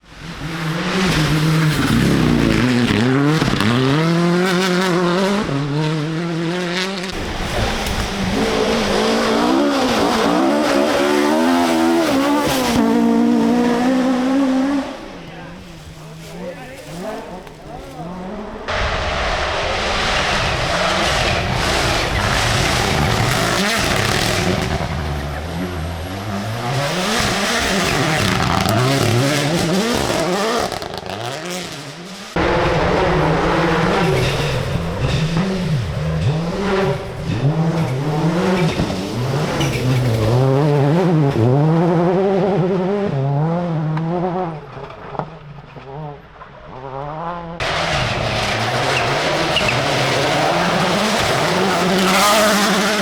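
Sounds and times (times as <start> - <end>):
rally car engines at full throttle: 0.0 - 53.0.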